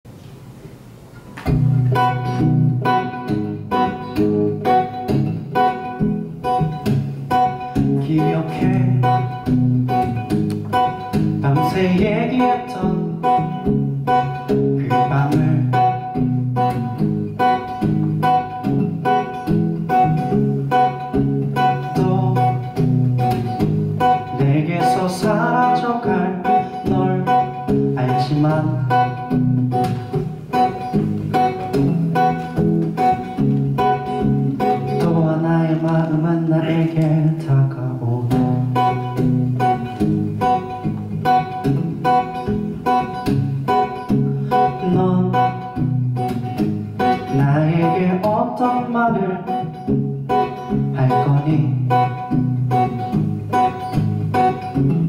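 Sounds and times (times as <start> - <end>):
acoustic guitar strumming: 0.1 - 55.0.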